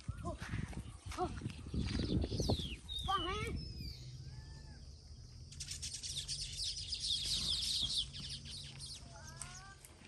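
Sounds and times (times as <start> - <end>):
birds chattering: 0.0 - 10.0.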